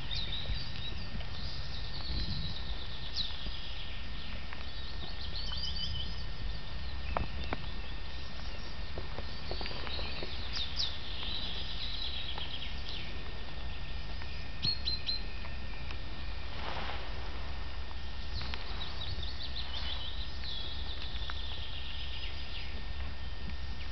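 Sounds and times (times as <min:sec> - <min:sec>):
songbirds chirping and trilling: 0:00.0 - 0:23.9
steady low rumble: 0:00.0 - 0:23.9.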